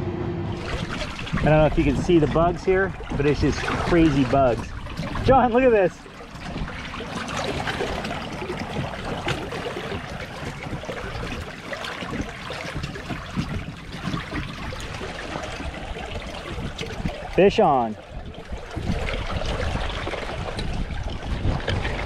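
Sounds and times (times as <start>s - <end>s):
river water trickling and splashing: 0.5s - 22.0s.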